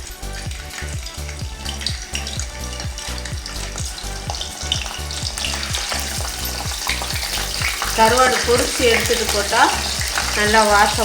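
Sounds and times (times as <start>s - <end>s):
fish sizzling in hot oil: 0.0s - 11.0s
music with low beat: 0.0s - 11.0s.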